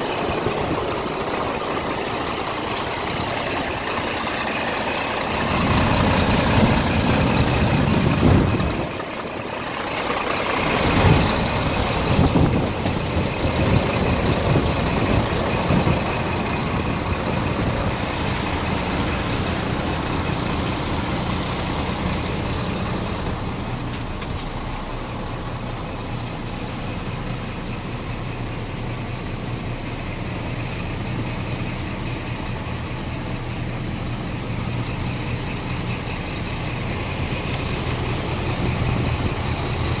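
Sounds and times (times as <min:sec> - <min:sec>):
diesel truck engine idling: 0:00.0 - 0:40.0.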